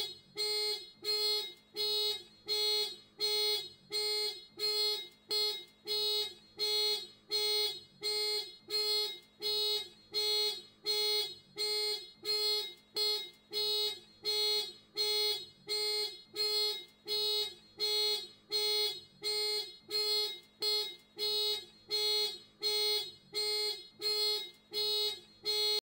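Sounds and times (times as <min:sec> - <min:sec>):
car alarm buzzy beeps: 0:00.0 - 0:25.8.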